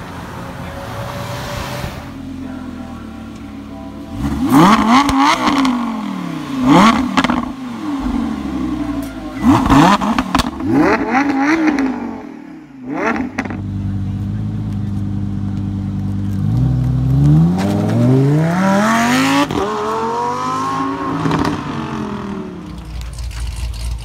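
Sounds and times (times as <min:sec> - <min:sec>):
sports car engine revving: 0:03.6 - 0:23.9
exhaust crackles: 0:04.1 - 0:24.0.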